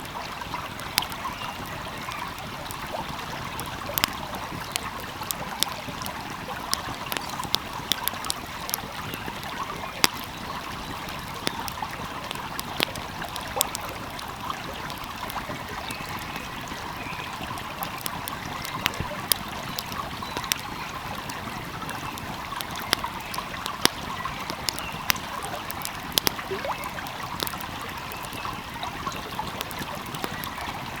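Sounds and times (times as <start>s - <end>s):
stream flowing: 0.0s - 31.0s
wood fire crackling: 0.0s - 31.0s.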